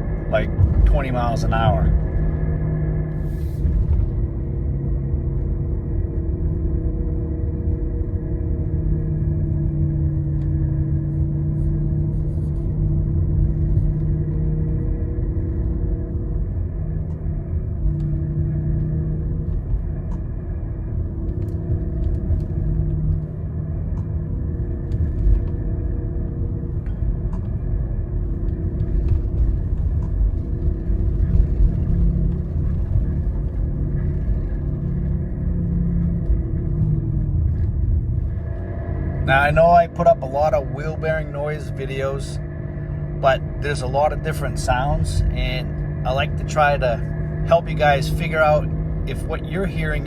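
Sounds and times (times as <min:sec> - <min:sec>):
tyre and road rumble: 0:00.0 - 0:50.0.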